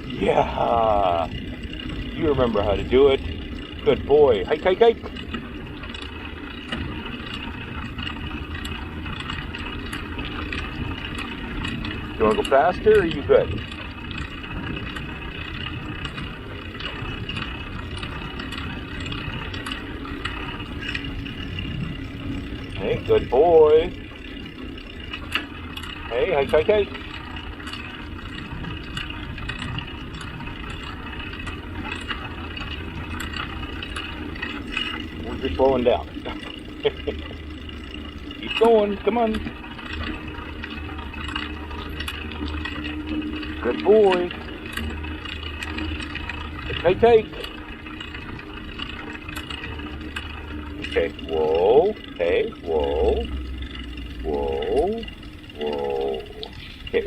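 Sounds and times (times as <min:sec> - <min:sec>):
bicycle tyres rolling on road: 0:00.0 - 0:57.0.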